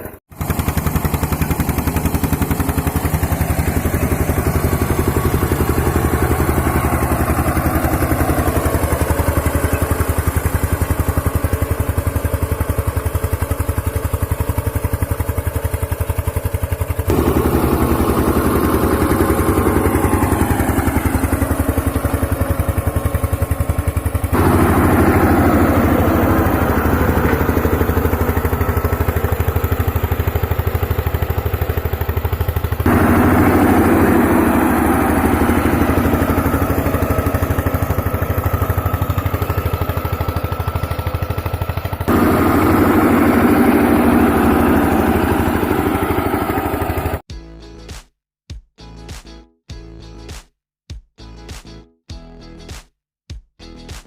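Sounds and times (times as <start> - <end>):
tractor engine running: 0.0 - 47.3.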